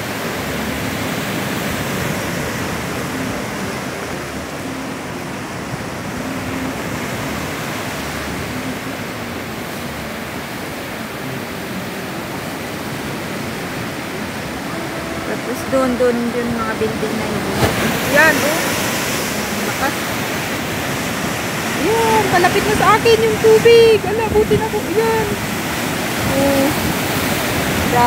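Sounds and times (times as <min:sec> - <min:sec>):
waves breaking on shore: 0:00.0 - 0:28.0.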